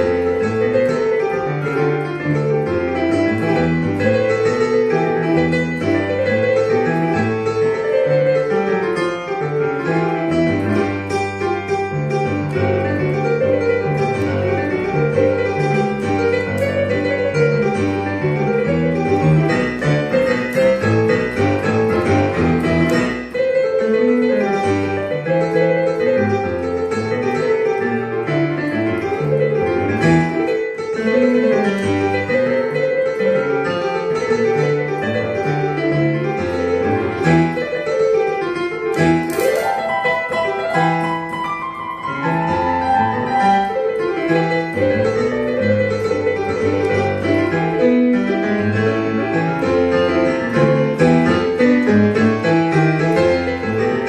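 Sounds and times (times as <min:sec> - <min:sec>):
digital piano playing: 0:00.0 - 0:54.0.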